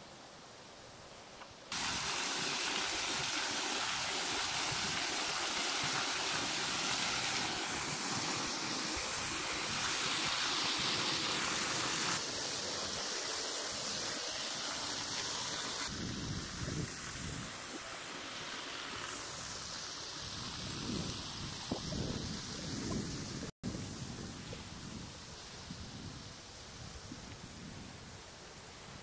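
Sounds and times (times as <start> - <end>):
water pouring and splashing: 1.7 - 27.5.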